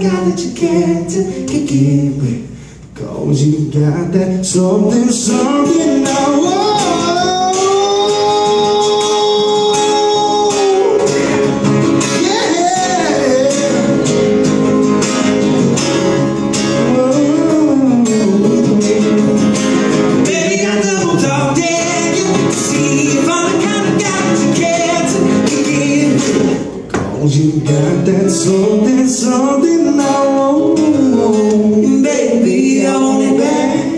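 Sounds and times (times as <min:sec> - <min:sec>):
man singing: 0:00.0 - 0:14.4, 0:16.5 - 0:33.9
acoustic guitars strummed: 0:00.0 - 0:33.9.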